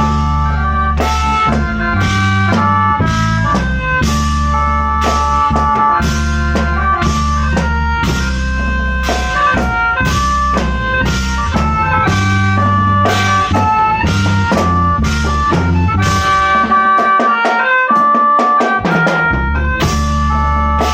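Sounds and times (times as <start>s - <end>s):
deep bass notes: 0.0s - 17.2s, 18.8s - 20.9s
drum kit beating: 0.0s - 20.9s
mouth organ melody: 0.0s - 20.9s.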